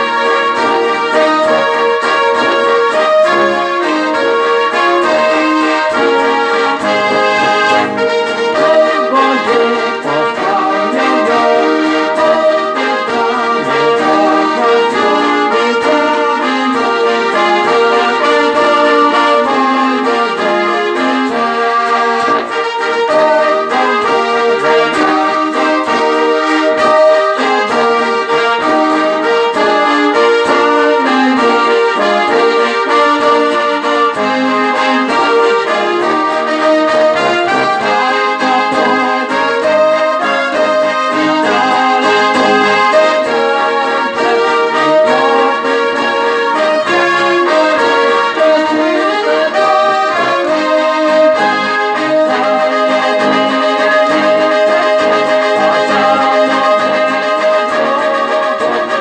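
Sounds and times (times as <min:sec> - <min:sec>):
accordion melody: 0:00.0 - 0:59.0
electric guitar: 0:00.0 - 0:59.0.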